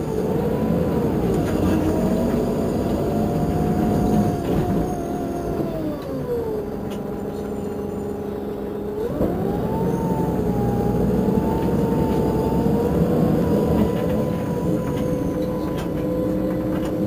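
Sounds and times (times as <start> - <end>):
diesel coach engine whine: 0.0 - 17.0.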